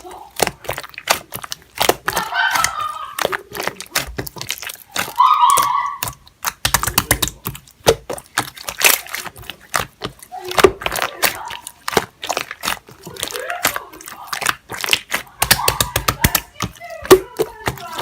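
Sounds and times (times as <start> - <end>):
sticky slime clicks and pops: 0.3 - 18.0.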